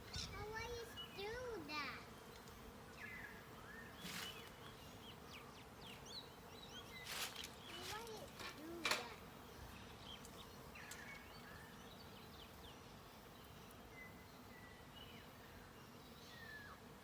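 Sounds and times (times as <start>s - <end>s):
honeybee swarm buzzing: 0.0s - 14.5s.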